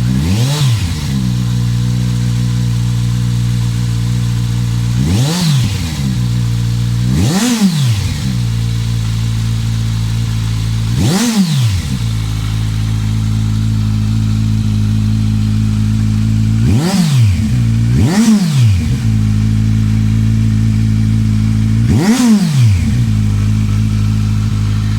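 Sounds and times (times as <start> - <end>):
motorcycle engine idling: 0.0 - 24.9
motorcycle engine revs: 0.0 - 24.9.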